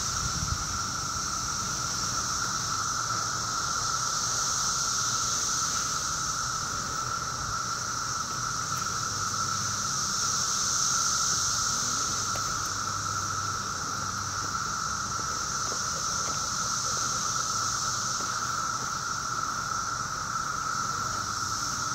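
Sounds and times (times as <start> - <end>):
cicadas droning: 0.0 - 21.9.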